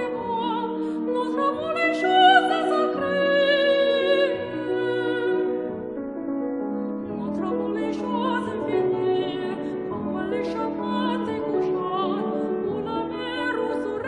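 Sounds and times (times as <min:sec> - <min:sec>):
classical voice singing: 0:00.0 - 0:06.0, 0:07.0 - 0:14.0
piano accompaniment: 0:00.0 - 0:14.0.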